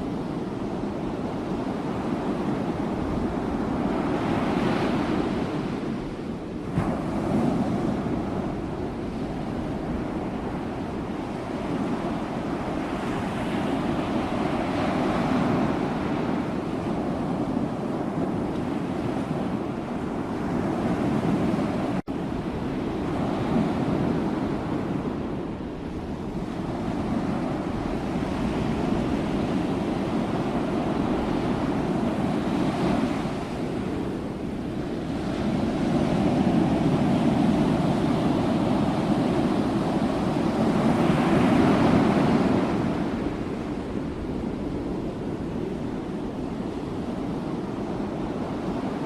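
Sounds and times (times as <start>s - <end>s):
ocean waves breaking on shore: 0.0s - 49.0s.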